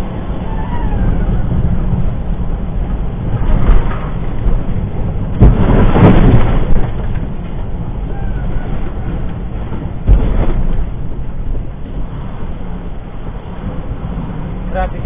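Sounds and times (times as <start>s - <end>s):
rushing surge: 0.0s - 15.0s
vehicle road rumble: 0.0s - 15.0s.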